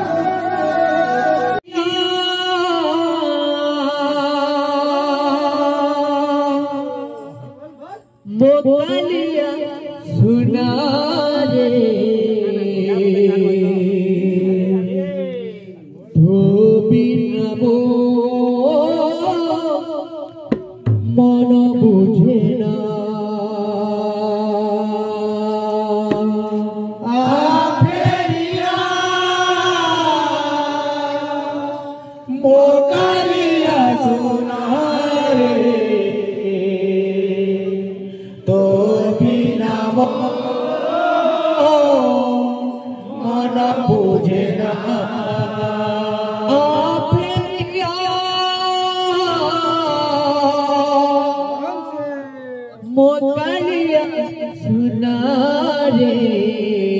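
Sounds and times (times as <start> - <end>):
person chanting a devotional song: 0.0 - 56.9.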